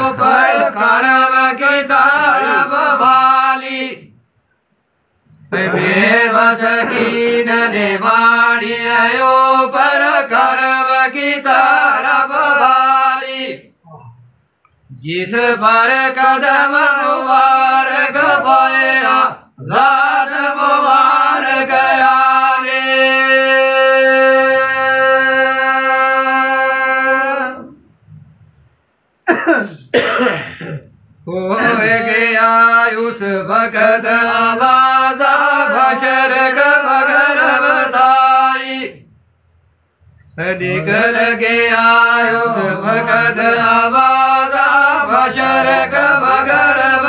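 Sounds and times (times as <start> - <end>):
man singing unaccompanied folk chant: 0.0 - 4.1, 5.4 - 14.2, 14.9 - 27.8, 31.2 - 39.0, 40.4 - 47.0.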